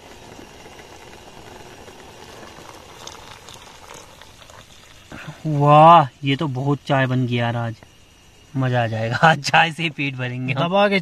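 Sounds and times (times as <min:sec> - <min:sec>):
tea boiling and bubbling: 0:00.0 - 0:09.8.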